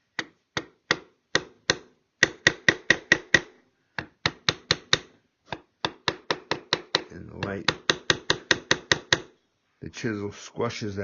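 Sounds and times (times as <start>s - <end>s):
chisel tapping into wood: 0.1s - 9.3s.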